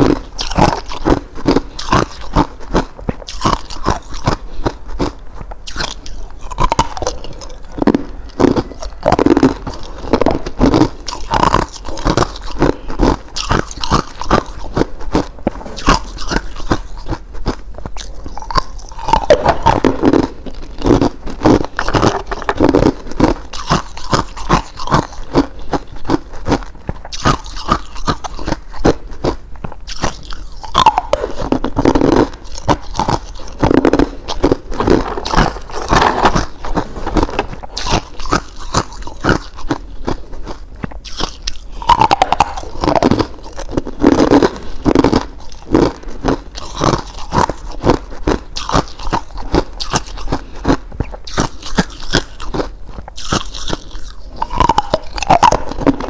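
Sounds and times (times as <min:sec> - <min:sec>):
ice being chewed crunching: 0:00.0 - 0:56.0.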